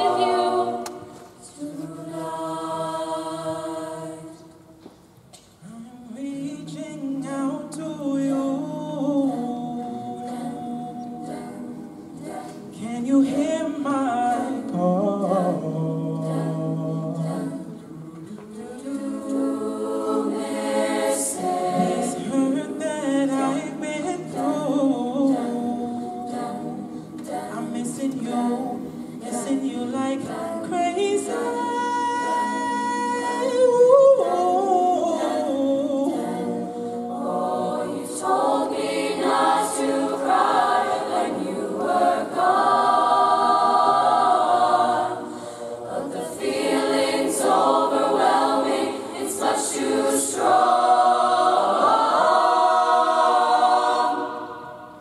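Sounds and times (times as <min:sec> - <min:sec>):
choir singing a cappella: 0:00.0 - 0:04.9, 0:05.6 - 0:55.0.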